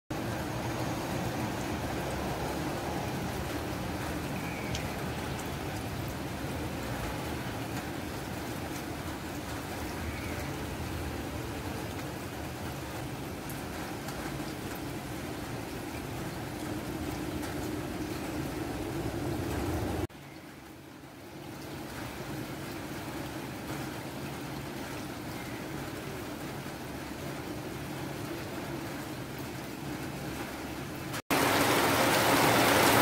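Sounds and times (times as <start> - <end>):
rain falling on a pool: 0.1 - 33.0.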